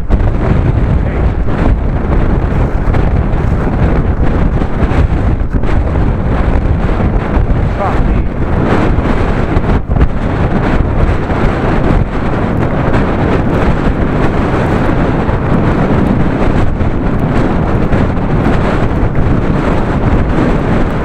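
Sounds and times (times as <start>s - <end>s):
heavy wind buffeting microphone: 0.0s - 21.0s.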